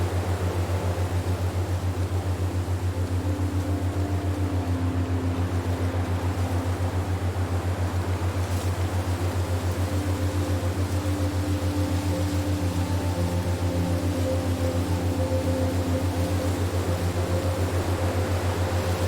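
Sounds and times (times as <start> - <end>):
held higher notes: 0.0 - 19.0
pulsing electronic drone: 0.0 - 19.0
soft hiss: 0.0 - 19.0.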